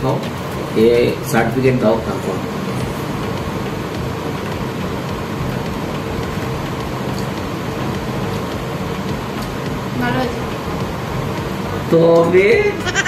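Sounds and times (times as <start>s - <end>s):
fan humming and rushing: 0.0s - 13.0s.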